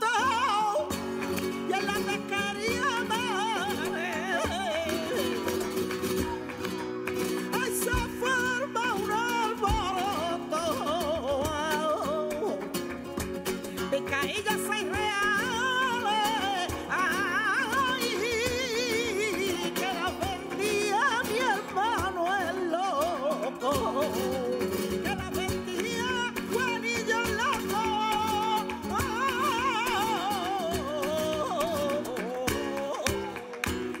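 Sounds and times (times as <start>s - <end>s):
woman singing with vibrato: 0.0s - 12.8s, 13.8s - 34.0s.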